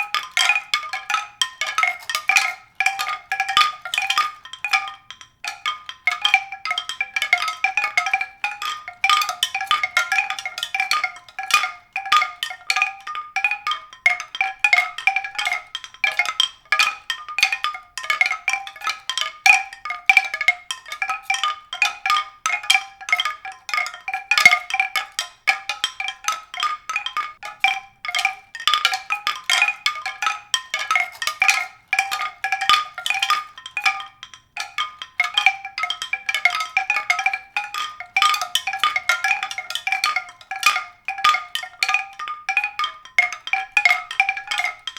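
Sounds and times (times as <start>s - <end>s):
tuned percussion ringing notes: 0.0s - 44.9s.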